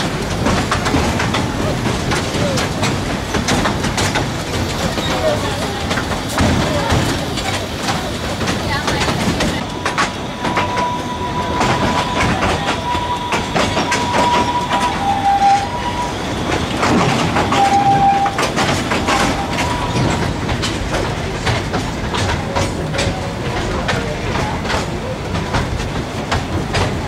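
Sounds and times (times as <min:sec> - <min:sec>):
train wheels clattering on track: 0:00.0 - 0:27.0.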